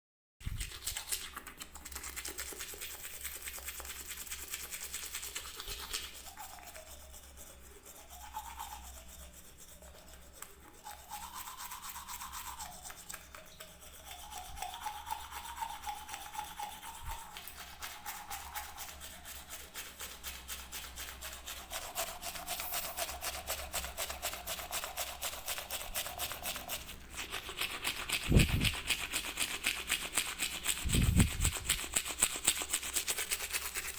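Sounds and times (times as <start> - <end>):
toothbrush scrubbing teeth: 0.4 - 33.9.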